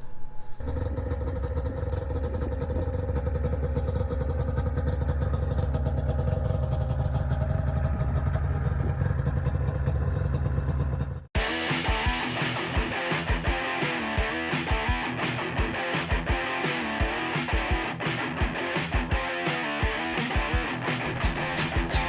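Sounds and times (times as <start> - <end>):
engine running with rhythmic pulse: 0.6 - 22.0.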